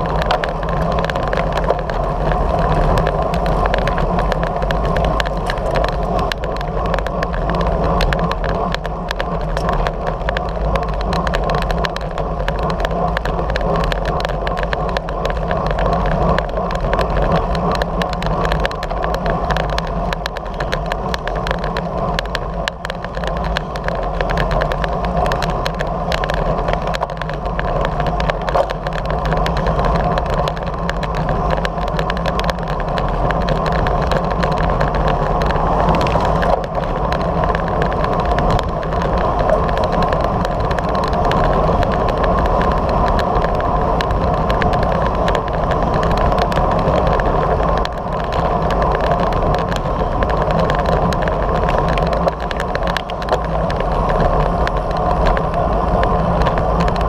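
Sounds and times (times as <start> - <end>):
bicycle tyre hum on asphalt: 0.0 - 57.0
wind rushing on microphone: 0.0 - 57.0.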